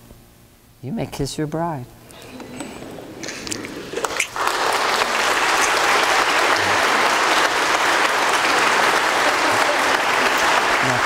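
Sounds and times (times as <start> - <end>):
congregation applauding: 2.1 - 11.0.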